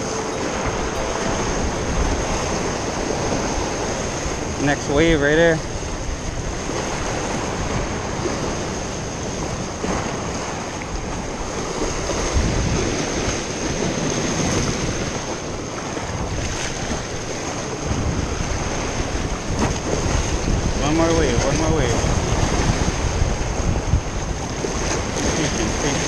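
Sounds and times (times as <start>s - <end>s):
surf washing over rocks: 0.0s - 26.0s
wind buffeting microphone: 0.0s - 26.0s.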